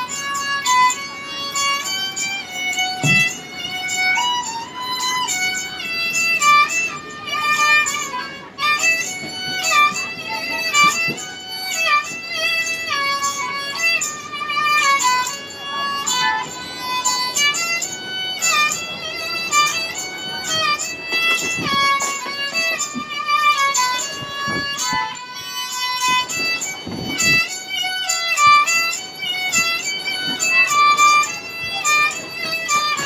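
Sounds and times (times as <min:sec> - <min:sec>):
bowed fiddle melody: 0:00.0 - 0:33.0
low background noise: 0:00.0 - 0:33.0.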